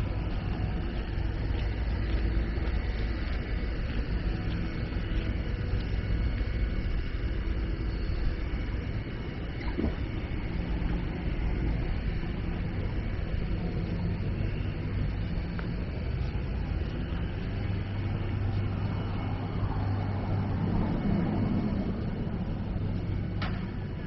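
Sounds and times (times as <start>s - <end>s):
passing vehicles rumble: 0.0s - 7.8s, 8.5s - 24.0s
low engine hum: 0.0s - 24.0s.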